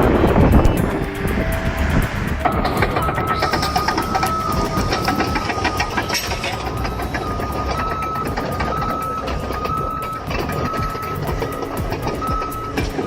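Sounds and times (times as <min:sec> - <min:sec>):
backup alarm beeping: 0:00.0 - 0:13.0
clanking clicks: 0:00.0 - 0:13.0
diesel engine rumble: 0:00.0 - 0:13.0.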